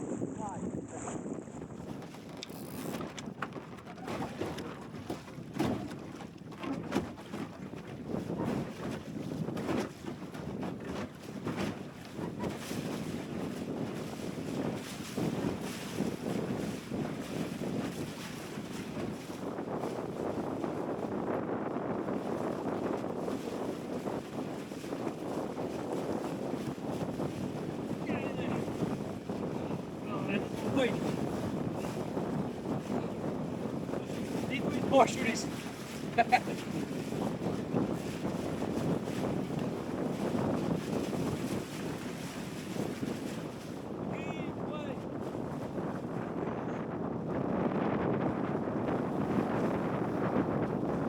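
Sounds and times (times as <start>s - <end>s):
gusty wind buffeting microphone: 0.0s - 51.0s.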